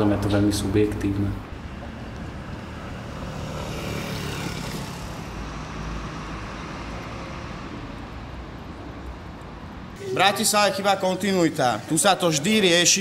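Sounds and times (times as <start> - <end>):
street traffic noise: 0.0 - 13.0
vehicle passing: 0.0 - 13.0.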